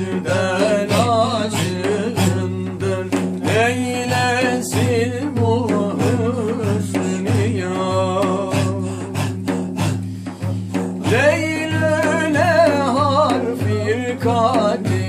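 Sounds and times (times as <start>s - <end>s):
man singing ornamented solo: 0.0s - 10.0s, 11.0s - 15.0s.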